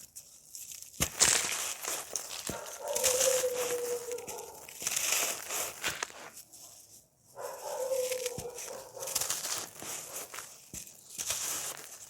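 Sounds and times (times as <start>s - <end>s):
crunchy material crumbled by hand: 0.0s - 12.0s.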